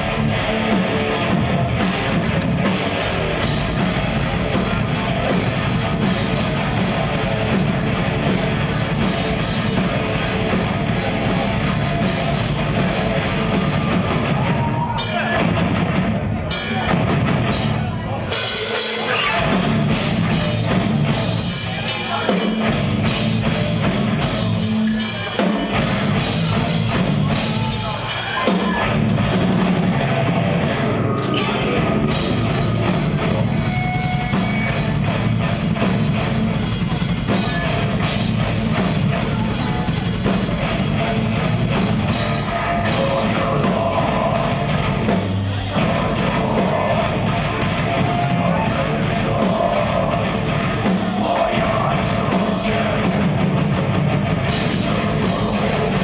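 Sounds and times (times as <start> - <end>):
rapid drum hits: 0.0 - 24.6, 25.4 - 56.0
bass guitar: 0.0 - 56.0
distorted guitars: 0.0 - 56.0.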